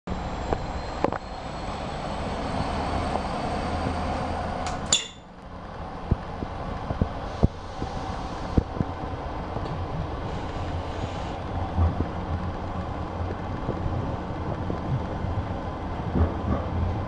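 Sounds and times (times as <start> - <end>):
train rumble and hum: 0.1 - 17.0.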